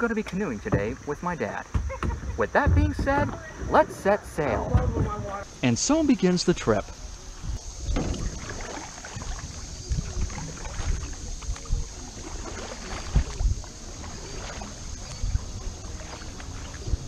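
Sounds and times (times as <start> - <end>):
low thumps on canoe: 0.0 - 5.5, 7.5 - 17.0
canoe paddles stroking water: 0.0 - 17.0
water splashing: 0.0 - 17.0.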